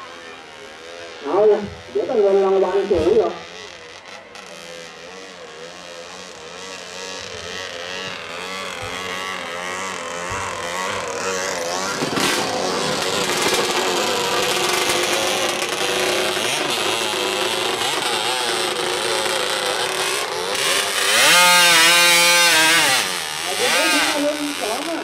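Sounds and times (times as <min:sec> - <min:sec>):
boat engine revving: 0:00.0 - 0:25.0.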